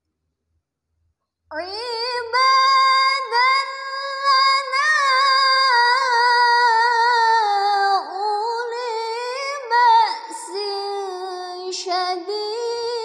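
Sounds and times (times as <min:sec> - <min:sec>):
woman reciting melodically: 0:01.5 - 0:13.0.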